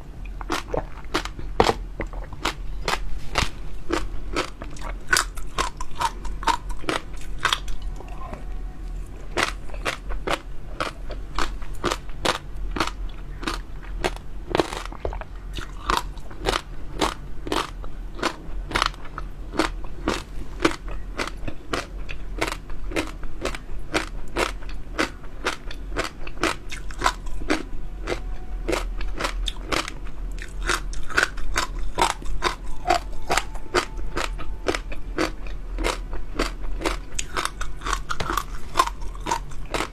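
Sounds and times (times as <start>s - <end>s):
chewing crunchy jelly pearls: 0.2s - 39.9s.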